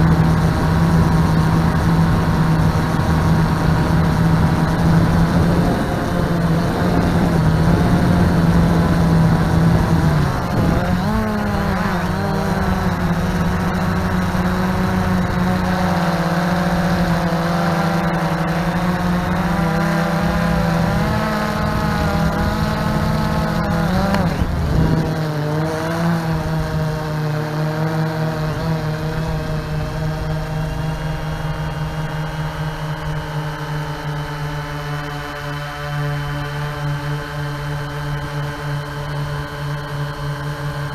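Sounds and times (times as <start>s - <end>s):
drone propellers humming: 0.0s - 40.9s.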